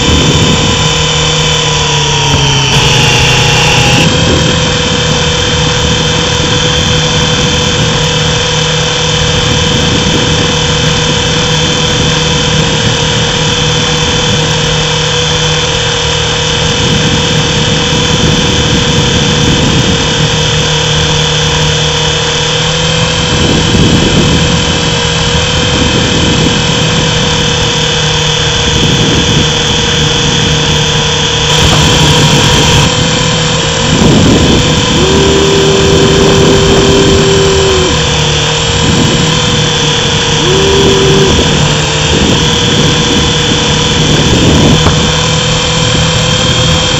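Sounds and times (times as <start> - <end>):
rc helicopter motor whine: 0.0 - 46.9.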